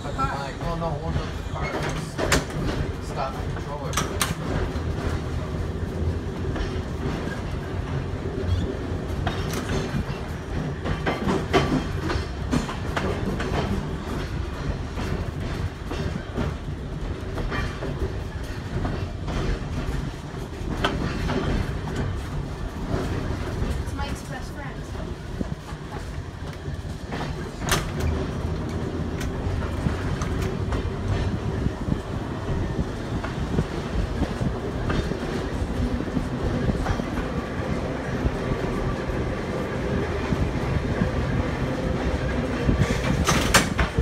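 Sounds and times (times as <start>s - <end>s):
trolley car wheels rumbling: 0.0s - 44.0s
wheels clacking on rails: 0.0s - 44.0s.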